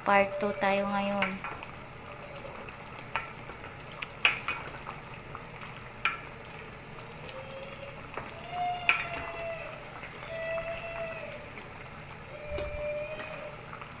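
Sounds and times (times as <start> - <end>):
broth bubbling: 0.0 - 14.0.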